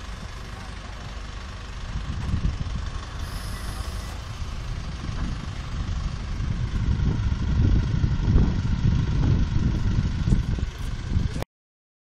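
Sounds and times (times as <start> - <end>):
truck engine running: 0.0 - 11.4.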